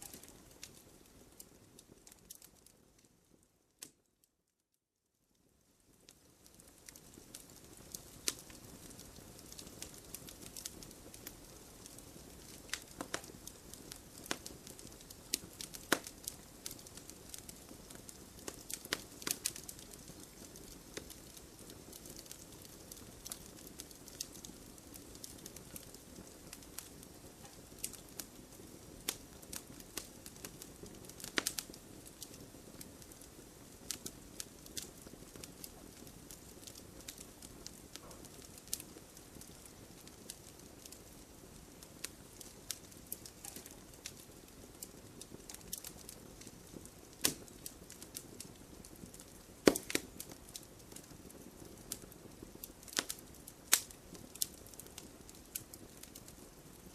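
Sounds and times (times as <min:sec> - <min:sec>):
campfire crackling and popping: 0:00.0 - 0:04.0, 0:05.8 - 0:56.9
hiss of burning: 0:06.5 - 0:56.8.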